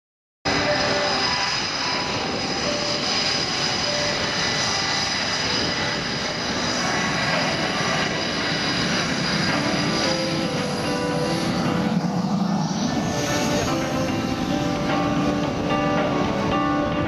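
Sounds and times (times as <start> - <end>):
jet engines running with high whine: 0.5 - 17.0.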